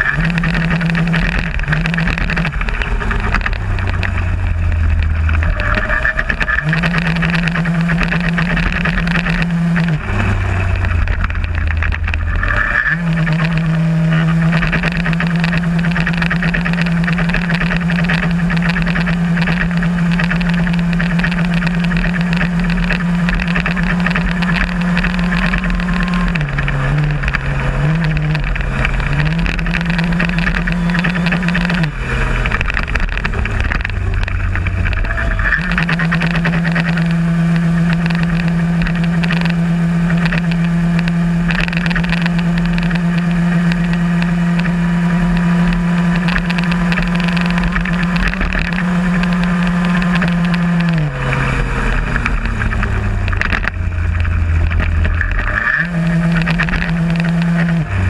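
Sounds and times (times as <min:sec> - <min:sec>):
moped two-stroke engine running: 0:00.0 - 0:58.0.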